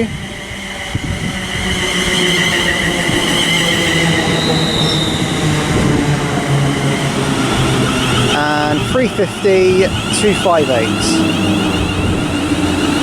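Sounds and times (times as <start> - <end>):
high steady squealing: 0.0 - 13.0
train rumble: 0.0 - 13.0.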